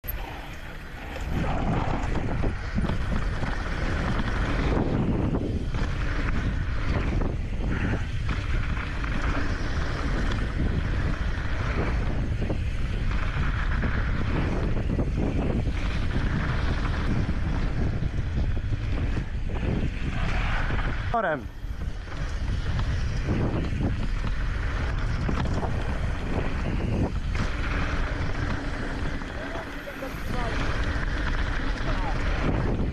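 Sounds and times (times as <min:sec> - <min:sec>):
bike tyre rumble on dirt: 0:00.0 - 0:32.9
wind buffeting microphone: 0:00.0 - 0:32.9
bike knocks and rattles: 0:01.1 - 0:32.9.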